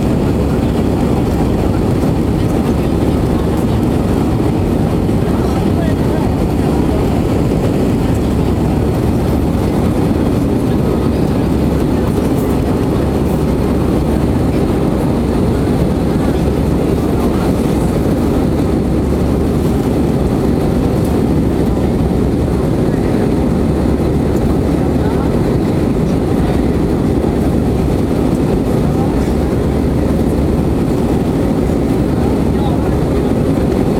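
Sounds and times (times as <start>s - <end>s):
jet engines and airflow rush: 0.0s - 33.9s.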